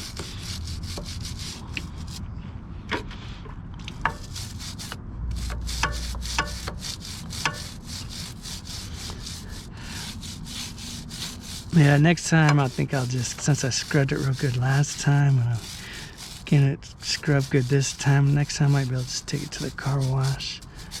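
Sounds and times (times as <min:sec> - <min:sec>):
brush scrubbing chain: 0:00.0 - 0:02.2, 0:04.0 - 0:21.0.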